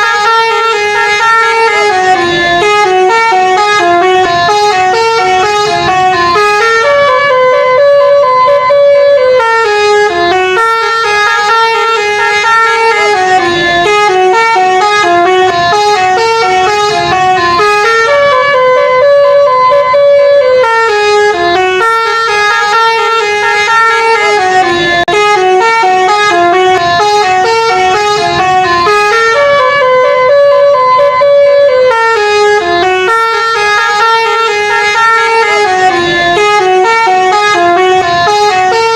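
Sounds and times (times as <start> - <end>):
bus musical horn tune: 0.0 - 38.9.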